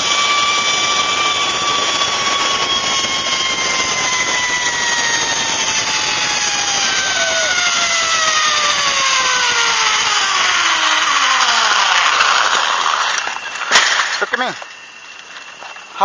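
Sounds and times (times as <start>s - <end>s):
rushing wind and cable noise: 0.0s - 16.0s
zip line pulley whine: 0.0s - 16.0s.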